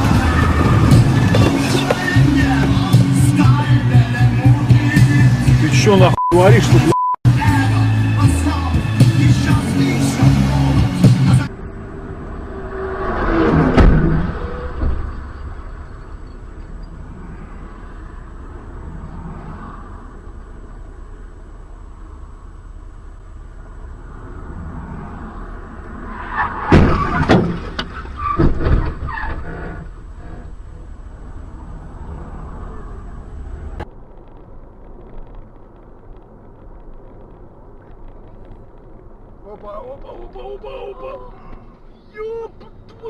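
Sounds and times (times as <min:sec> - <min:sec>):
truck passing close: 0:00.0 - 0:35.4
highway traffic rumble: 0:00.0 - 0:43.0.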